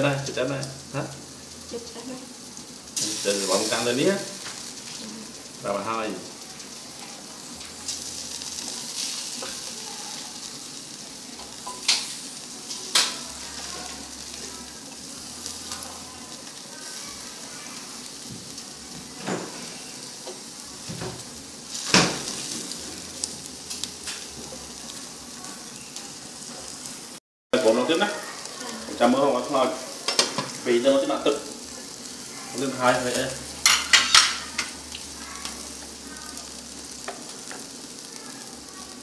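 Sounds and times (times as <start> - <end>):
meat sizzling on grill: 0.0 - 39.0.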